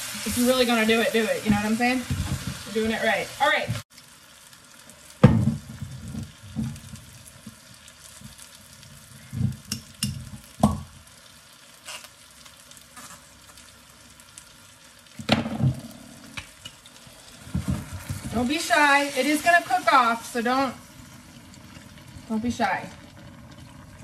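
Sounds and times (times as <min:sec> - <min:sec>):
stew sizzling in a pot: 0:00.0 - 0:24.0.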